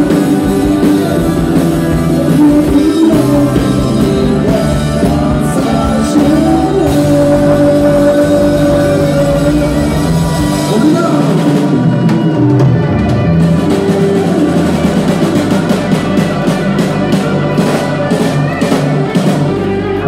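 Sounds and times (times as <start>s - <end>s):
band playing: 0.0s - 20.0s
drum kit beat: 0.0s - 20.0s.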